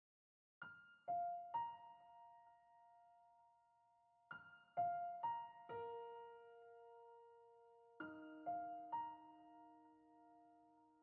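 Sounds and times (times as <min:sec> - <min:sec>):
soft piano melody: 0:00.6 - 0:11.0.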